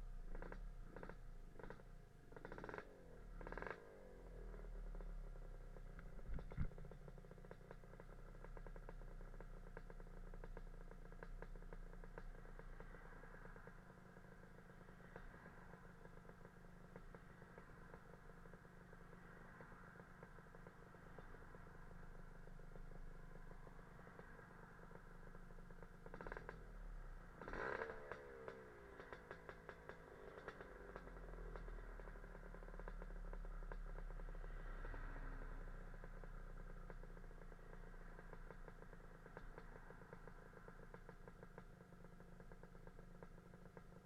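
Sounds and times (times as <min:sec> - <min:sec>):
scooter engine revving: 0:00.0 - 0:14.6, 0:22.2 - 0:44.0
scooter engine idling: 0:00.0 - 0:44.0.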